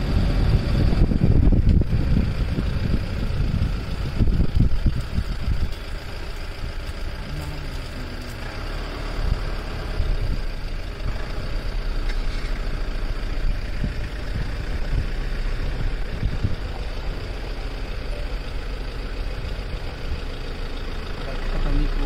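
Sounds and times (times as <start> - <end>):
jeep engine rumbling: 0.0 - 22.0.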